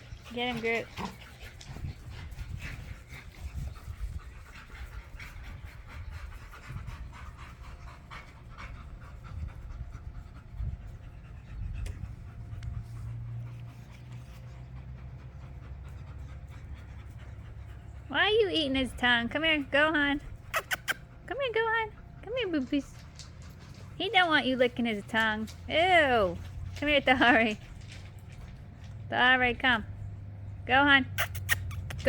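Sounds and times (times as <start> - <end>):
dog panting: 0.0 - 30.5.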